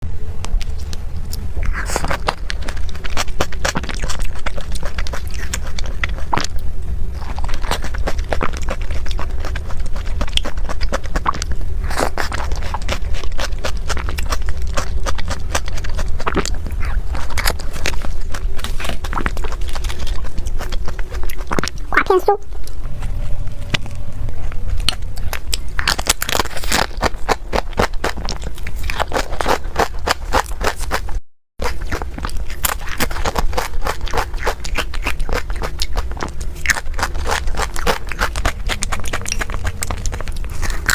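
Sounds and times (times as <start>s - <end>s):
steady low rumble: 0.0s - 40.9s
wet chewing with mouth clicks: 0.4s - 40.9s.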